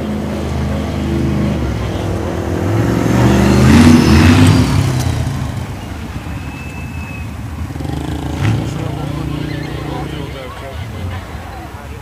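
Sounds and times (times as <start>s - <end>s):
monster truck engine revving: 0.0s - 6.6s, 7.5s - 11.3s.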